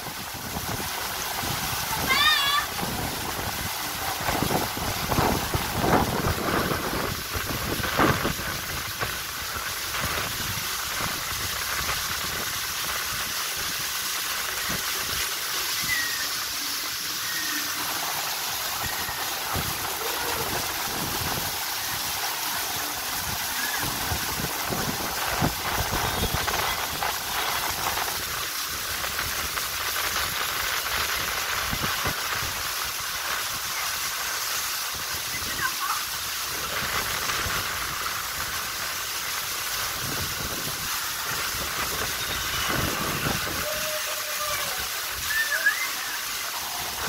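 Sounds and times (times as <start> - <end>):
water jets spraying: 0.0 - 47.0.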